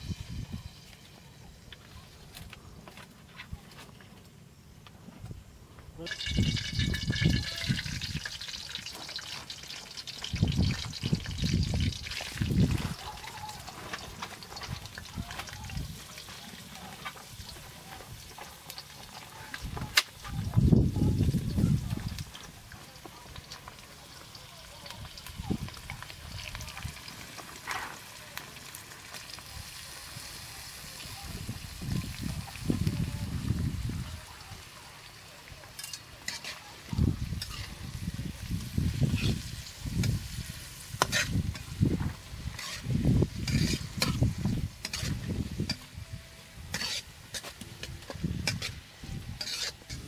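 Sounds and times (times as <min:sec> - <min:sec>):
hot oil sizzling in wok: 0:00.0 - 0:02.1, 0:06.0 - 0:50.0.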